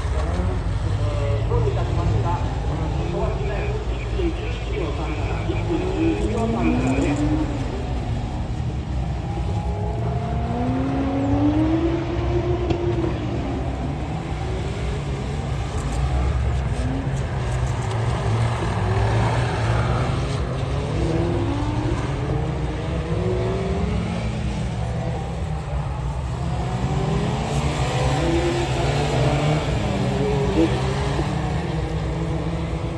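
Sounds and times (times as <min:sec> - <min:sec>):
car engine revving: 0:04.9 - 0:32.9.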